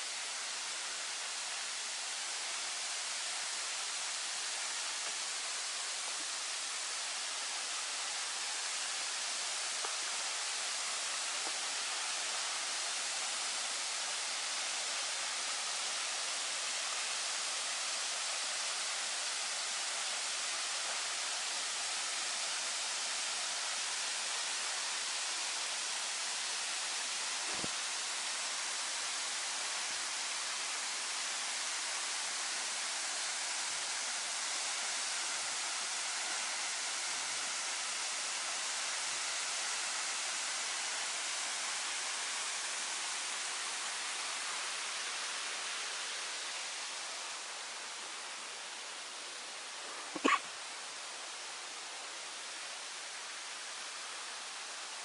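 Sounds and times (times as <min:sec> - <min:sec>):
waterfall pouring over rocks: 0:00.0 - 0:55.0.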